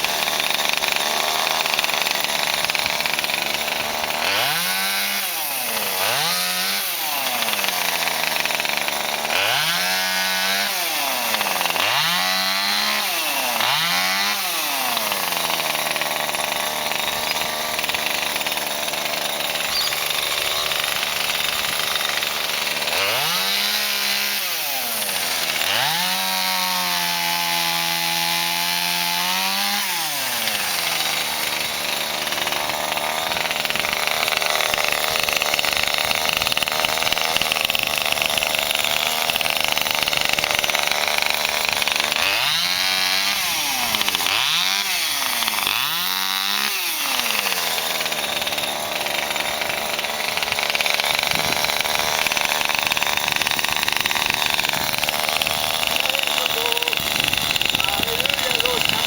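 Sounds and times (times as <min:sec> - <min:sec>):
chainsaw running and cutting: 0:00.0 - 0:59.0.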